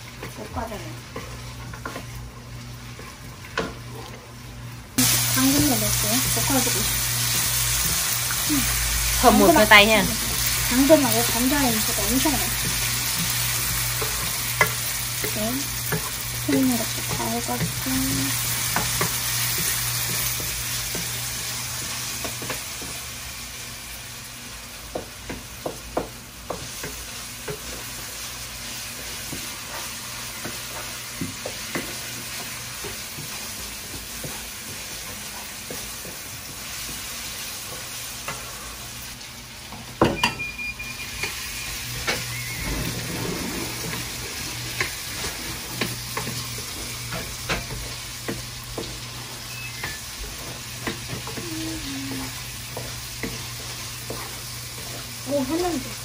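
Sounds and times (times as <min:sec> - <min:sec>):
potatoes sizzling in a pan: 0:00.0 - 0:40.0, 0:41.0 - 0:56.0.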